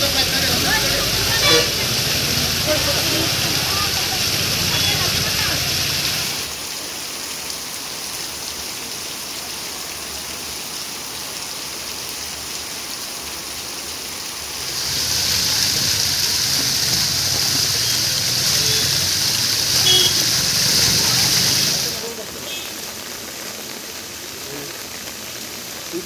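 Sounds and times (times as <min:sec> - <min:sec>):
heavy rain falling: 0:00.0 - 0:26.0
water streaming down steps: 0:00.0 - 0:26.0.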